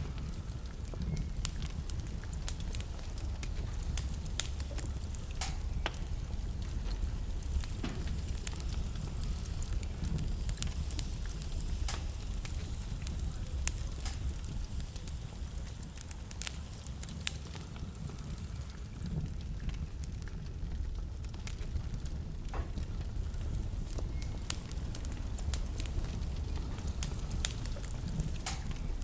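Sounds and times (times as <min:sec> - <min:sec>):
logs crackling and popping: 0:00.0 - 0:29.0
wood fire burning: 0:00.0 - 0:29.0.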